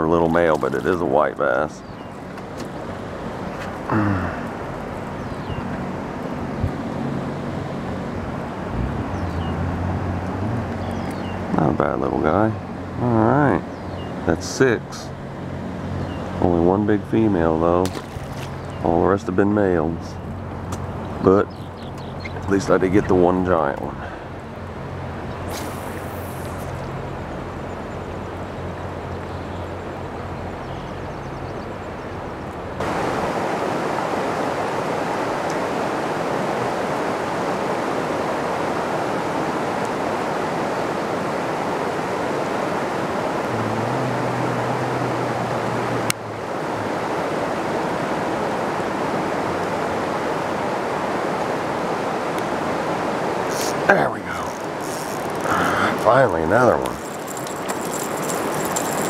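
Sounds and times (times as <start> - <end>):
river water flowing: 0.0 - 59.0
wind: 0.0 - 59.0.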